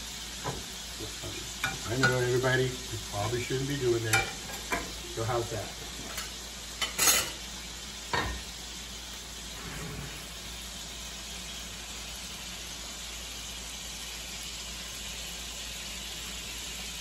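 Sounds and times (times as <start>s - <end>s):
patties sizzling in a skillet: 0.0s - 17.0s.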